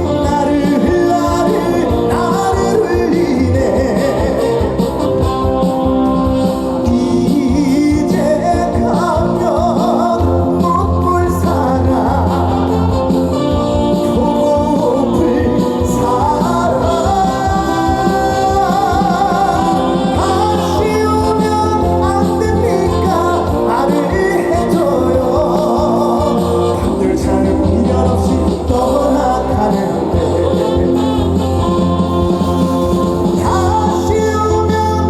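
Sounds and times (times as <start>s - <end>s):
bass and drum beat: 0.0s - 35.0s
live band playing: 0.0s - 35.0s
wavering lead melody: 0.0s - 35.0s.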